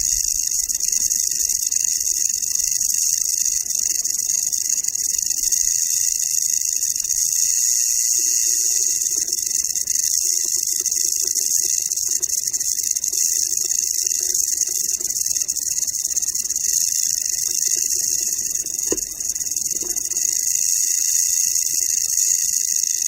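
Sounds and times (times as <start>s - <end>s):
rattlesnake tail rattling: 0.0s - 23.0s.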